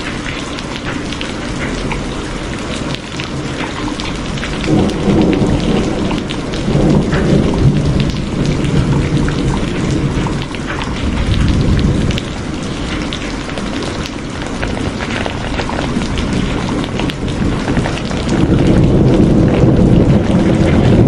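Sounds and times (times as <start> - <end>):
rain drops ticking: 0.0 - 21.0
rolling thunder rumble: 1.8 - 21.0.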